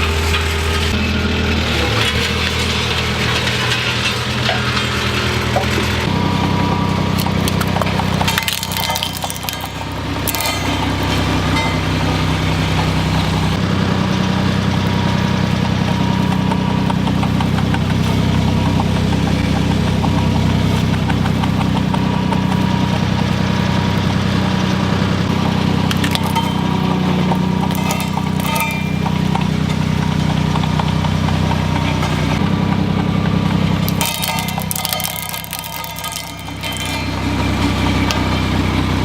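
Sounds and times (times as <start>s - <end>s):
road roller engine running: 0.0s - 39.0s
sharp crackles of crushing: 0.0s - 39.0s.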